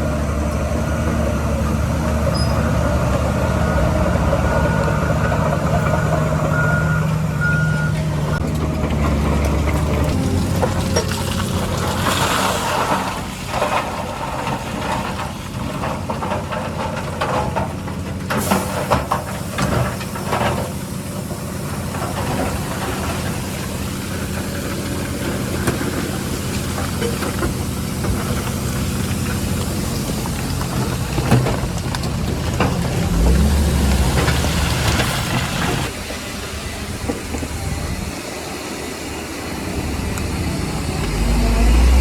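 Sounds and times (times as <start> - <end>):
diesel machinery engine running: 0.0 - 42.0.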